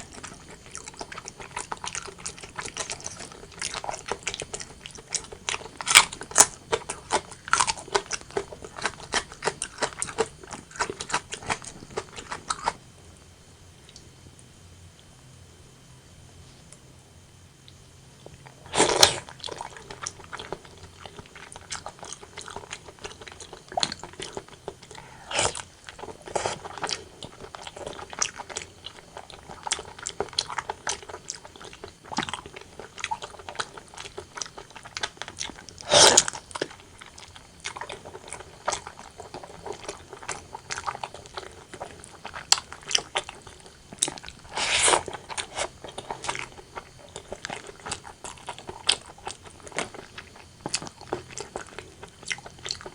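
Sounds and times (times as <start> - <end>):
wet chewing and smacking: 0.0 - 12.8, 17.7 - 52.9.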